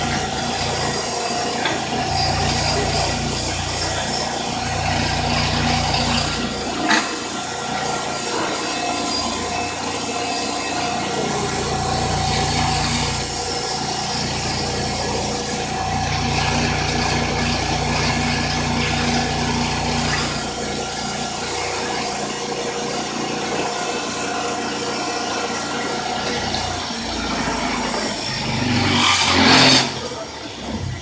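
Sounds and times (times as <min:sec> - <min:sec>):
metal scraping on polishing wheel: 0:00.0 - 0:21.9, 0:26.2 - 0:30.2
bench grinder motor hum: 0:00.0 - 0:30.3.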